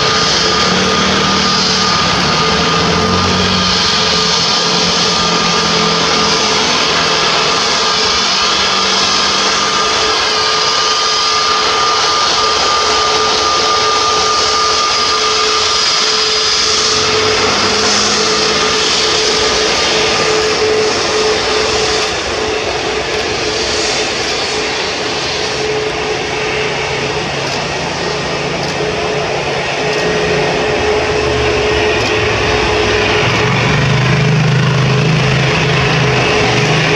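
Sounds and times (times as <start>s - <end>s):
jet engines whining at taxi: 0.0s - 36.9s.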